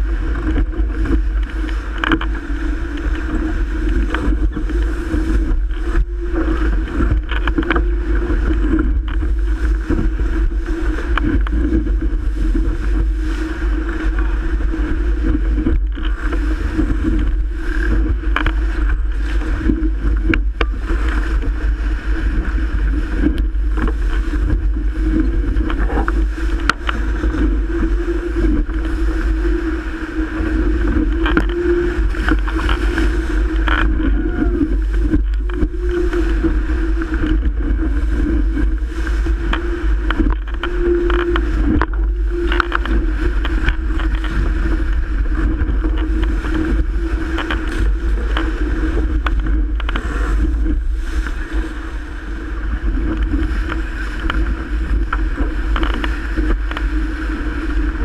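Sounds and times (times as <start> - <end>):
boat hull rushing through water: 0.0 - 58.0
steady low hum: 0.0 - 58.0
water slaps and splashes: 0.0 - 58.0
wind buffeting microphone: 0.0 - 58.0.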